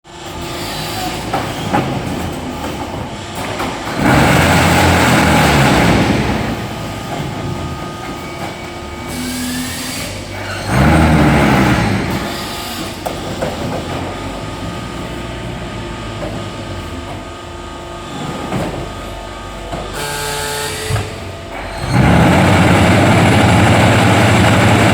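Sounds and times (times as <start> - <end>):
loud vibration drone: 0.1 - 24.9
block machine running: 0.3 - 17.3, 19.8 - 24.9.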